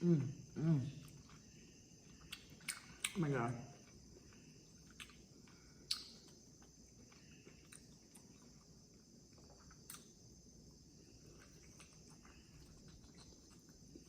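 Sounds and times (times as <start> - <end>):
faint high-pitched hum: 0.0 - 14.0
chewing and mouth clicks: 1.0 - 14.0.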